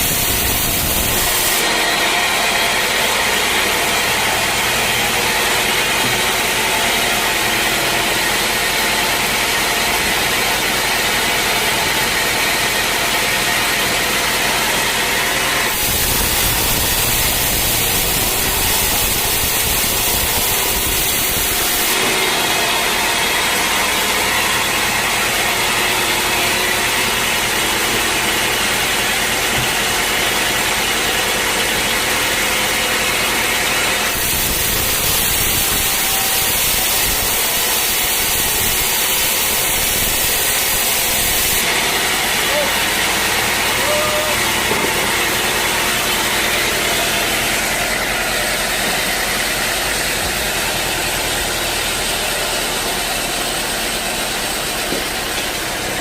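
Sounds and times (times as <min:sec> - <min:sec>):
sawmill machinery sawing logs: 0:00.0 - 0:56.0.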